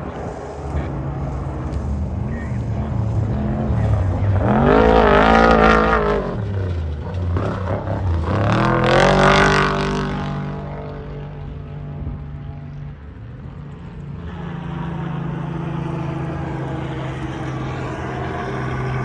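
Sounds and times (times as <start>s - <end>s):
race truck engine revving past: 0.0s - 12.6s, 14.0s - 19.0s.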